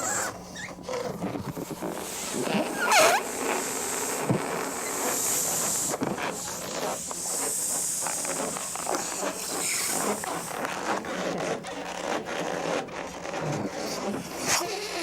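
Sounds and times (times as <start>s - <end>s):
balloon squeal: 0.0s - 15.0s
balloons rubbed and squeaking: 0.0s - 15.0s.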